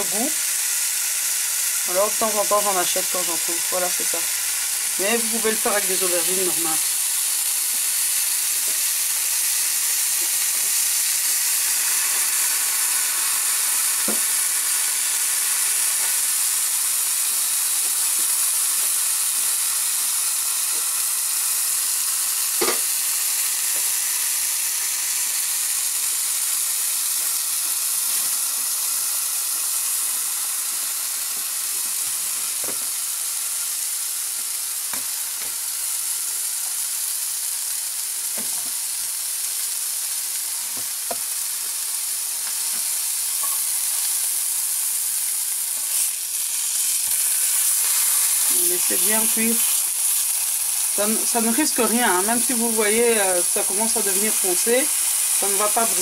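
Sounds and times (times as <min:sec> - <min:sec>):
food sizzling on a grill pan: 0:00.0 - 0:56.0
popping in a grill pan: 0:00.0 - 0:56.0.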